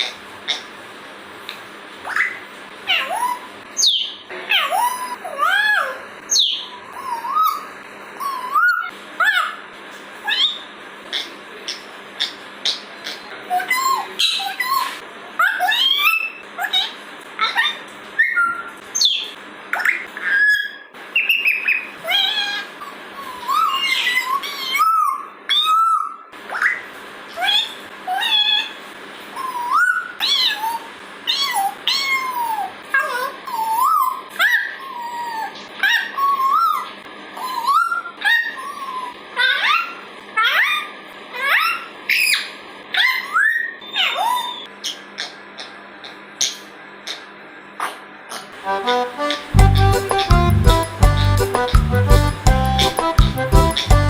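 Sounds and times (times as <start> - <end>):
parrot whistling and squawking: 0.0 - 0.7, 2.0 - 9.6, 10.2 - 48.5, 49.2 - 54.0.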